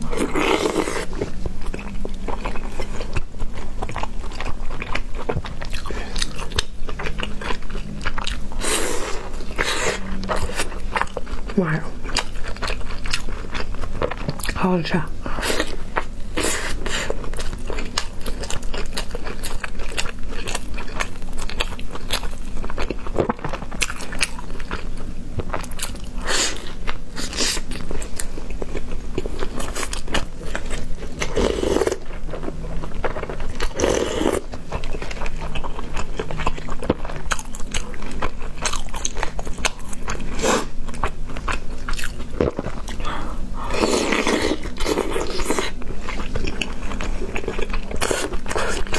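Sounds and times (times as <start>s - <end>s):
chewing and biting: 0.0s - 14.6s, 15.5s - 48.9s.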